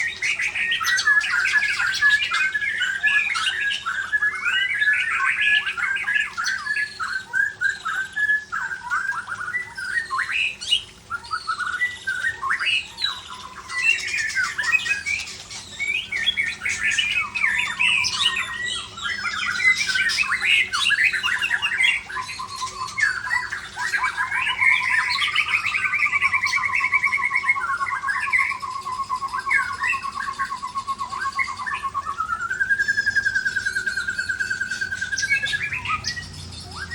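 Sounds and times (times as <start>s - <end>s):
bird singing varied song: 0.0s - 36.9s.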